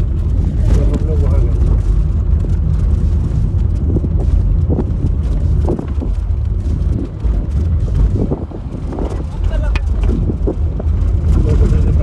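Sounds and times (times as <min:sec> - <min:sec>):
car road and engine noise: 0:00.0 - 0:12.0
wind buffeting microphone: 0:00.0 - 0:12.0.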